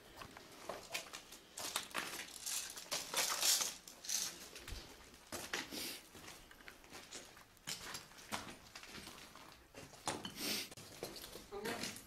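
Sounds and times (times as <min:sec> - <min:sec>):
footsteps crunching on rubble: 0:00.0 - 0:12.0.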